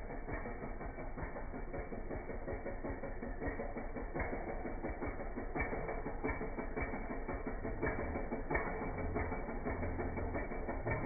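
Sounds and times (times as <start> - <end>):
chainsaw running at low speed: 0.0 - 11.0.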